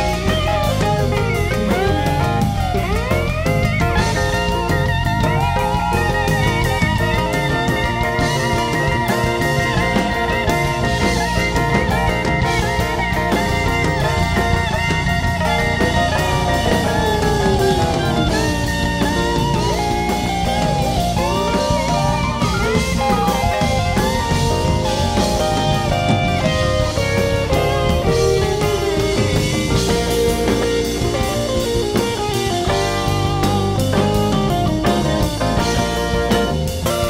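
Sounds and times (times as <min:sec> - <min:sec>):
bass guitar: 0:00.0 - 0:37.0
drums: 0:00.0 - 0:37.0
electric guitar lead lines: 0:00.0 - 0:37.0.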